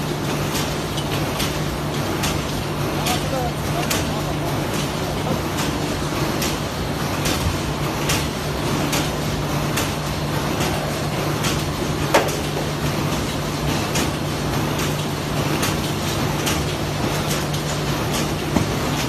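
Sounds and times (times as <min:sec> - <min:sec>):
punching machine clacking: 0:00.2 - 0:19.0.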